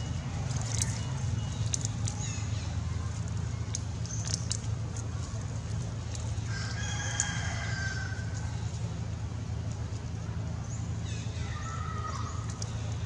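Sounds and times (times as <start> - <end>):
light ticks and rustles: 0.0 - 10.6, 12.3 - 13.0.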